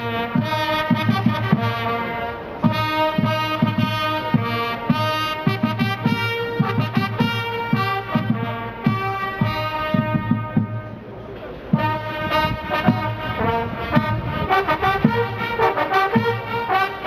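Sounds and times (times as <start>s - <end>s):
fanfare trumpets playing chords: 0.0s - 11.0s, 11.7s - 17.0s
drums beating: 0.0s - 17.0s.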